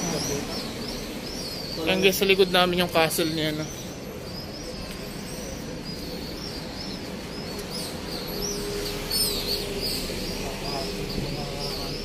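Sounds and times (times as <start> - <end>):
small birds twittering: 0.0 - 12.0
steady background noise: 0.0 - 12.0.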